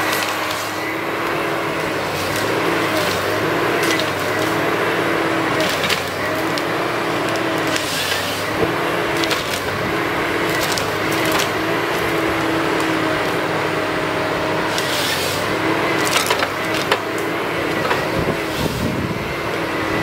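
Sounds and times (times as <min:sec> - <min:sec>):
wood and branches cracking: 0:00.0 - 0:13.8, 0:14.6 - 0:18.9
harvester engine and hydraulics hum: 0:00.0 - 0:20.0.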